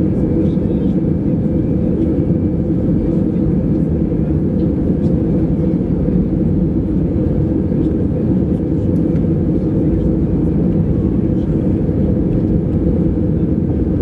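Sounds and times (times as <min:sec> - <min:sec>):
airliner cabin low rumble: 0:00.0 - 0:14.0.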